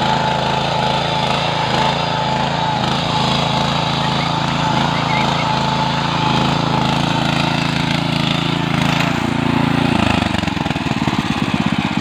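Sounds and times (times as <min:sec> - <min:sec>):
power tiller engine running: 0:00.0 - 0:12.0.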